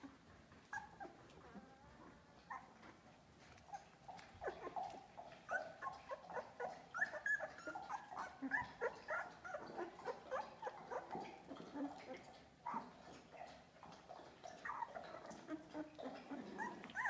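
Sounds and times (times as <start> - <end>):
puppies whimpering and squeaking: 0.0 - 13.5, 14.1 - 17.0.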